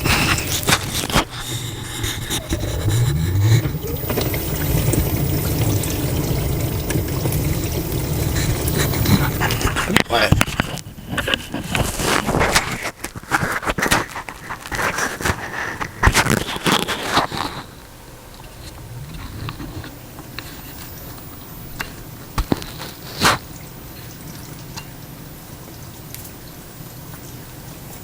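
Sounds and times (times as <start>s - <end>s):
dishwasher water spraying: 0.0s - 10.6s, 14.1s - 28.0s.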